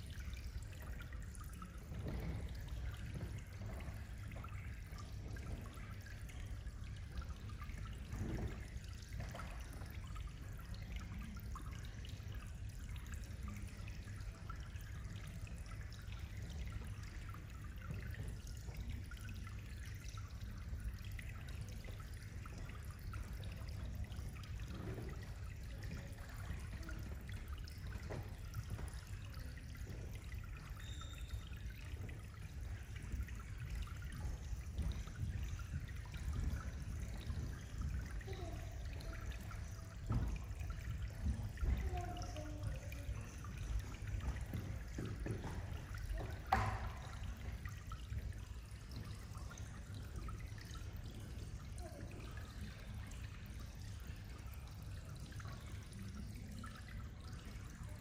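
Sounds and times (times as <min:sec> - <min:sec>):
water drips and splashes: 0:00.0 - 0:58.0
water trickling: 0:00.0 - 0:58.0.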